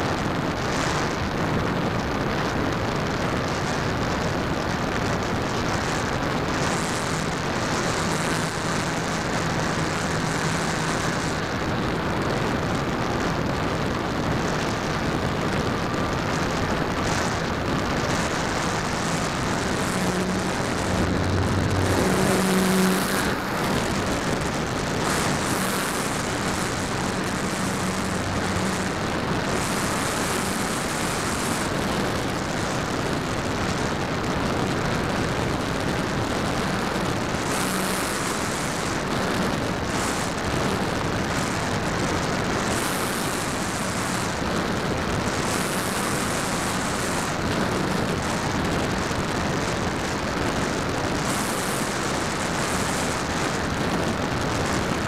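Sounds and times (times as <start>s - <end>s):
wind rush on microphone: 0.0s - 55.0s
electric motor and propeller: 0.6s - 55.0s.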